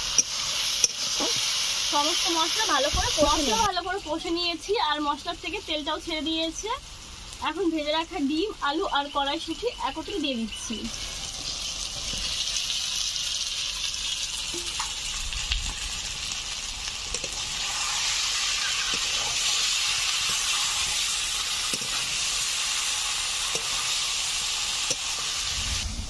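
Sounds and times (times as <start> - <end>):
food sizzling in oil: 0.0 - 25.9.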